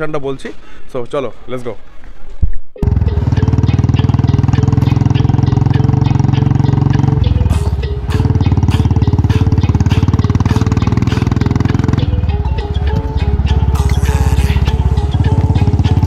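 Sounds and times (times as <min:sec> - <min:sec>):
motorcycle engine running: 0:02.8 - 0:16.0.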